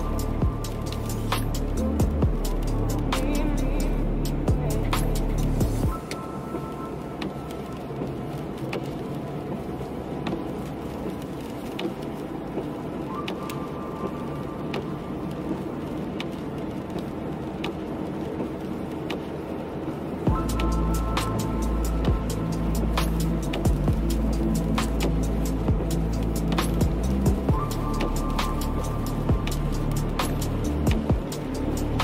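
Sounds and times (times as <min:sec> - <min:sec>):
tyres hissing on wet road: 0:00.0 - 0:32.0.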